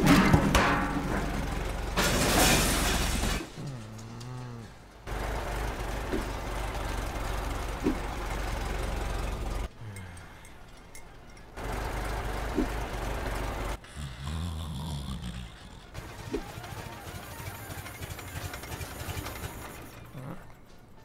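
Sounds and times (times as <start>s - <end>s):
engine-like rumble: 0.0s - 21.0s.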